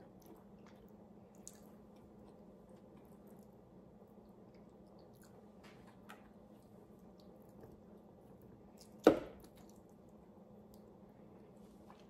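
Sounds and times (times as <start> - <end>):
faint eating clicks: 0.0 - 11.0.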